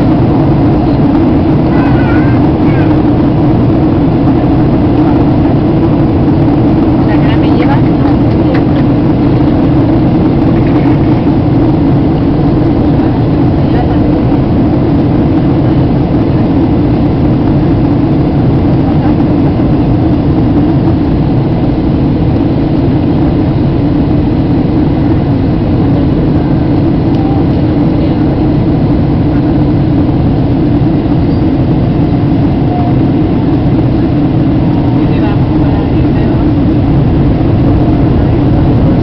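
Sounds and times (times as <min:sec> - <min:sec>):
jet engine drone: 0:00.0 - 0:39.0
rushing air: 0:00.0 - 0:39.0.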